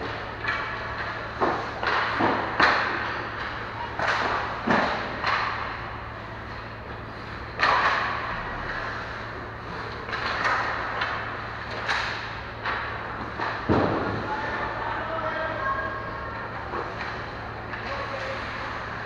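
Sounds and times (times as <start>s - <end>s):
sticks and puck clacking: 0.0s - 15.4s, 16.3s - 19.0s.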